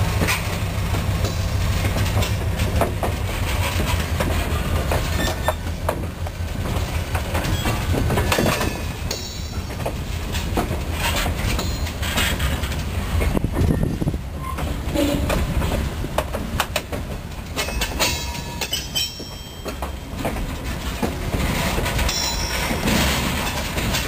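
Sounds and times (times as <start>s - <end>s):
train wheels clacking over rail joints: 0.0s - 24.0s.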